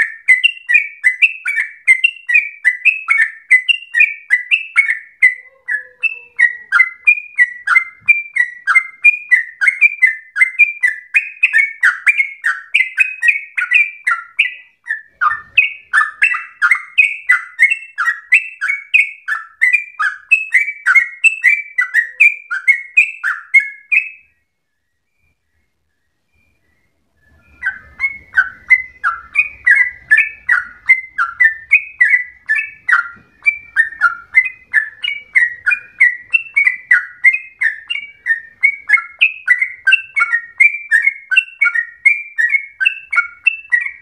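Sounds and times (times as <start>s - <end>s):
bulbul singing: 0.0s - 44.0s.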